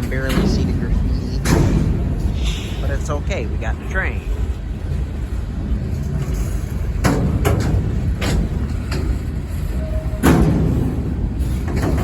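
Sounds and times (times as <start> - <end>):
freight train cars rumbling past: 0.0 - 12.0.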